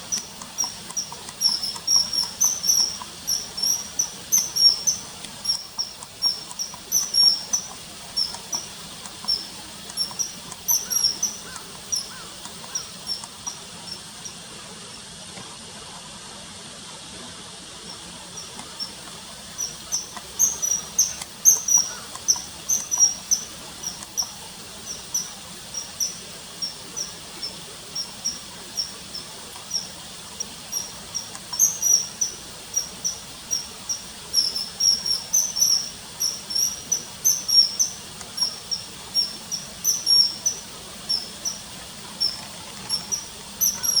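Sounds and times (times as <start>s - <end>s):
kingfisher whistling calls: 0.0s - 14.1s, 17.9s - 44.0s
faint steady hiss: 0.0s - 44.0s.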